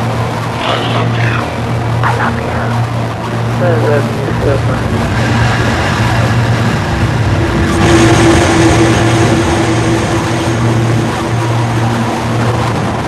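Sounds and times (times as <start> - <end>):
droning noise music: 0.0 - 13.0.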